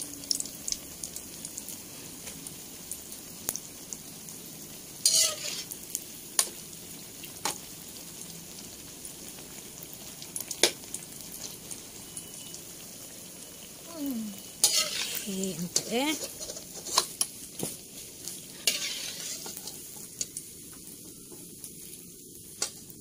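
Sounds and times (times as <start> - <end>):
eggplant sizzling in hot oil: 0.0 - 23.0.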